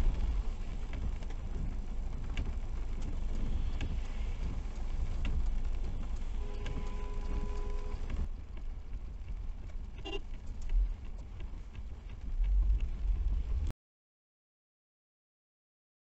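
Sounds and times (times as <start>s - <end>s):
car driving on wet road: 0.0s - 13.7s.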